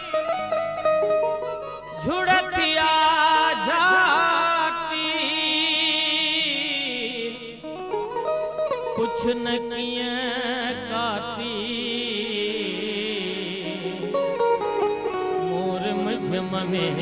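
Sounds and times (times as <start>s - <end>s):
harmonium chords: 0.0s - 17.0s
man singing ornamented melody: 0.0s - 17.0s.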